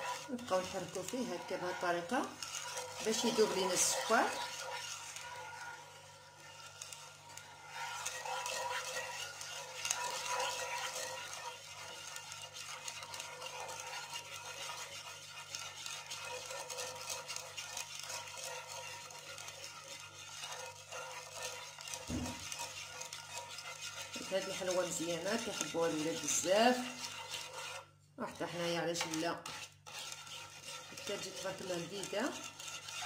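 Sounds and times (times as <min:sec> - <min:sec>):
spatula scraping frying pan: 0:00.0 - 0:33.0.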